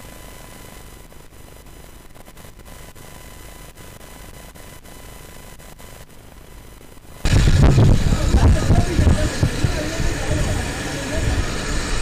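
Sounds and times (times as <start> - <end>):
electronic static hiss: 0.0 - 12.0
faint high whine: 0.0 - 12.0.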